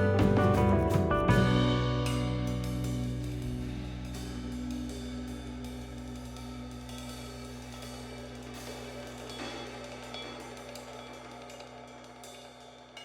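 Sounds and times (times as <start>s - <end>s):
background music with cymbals: 0.0s - 13.0s.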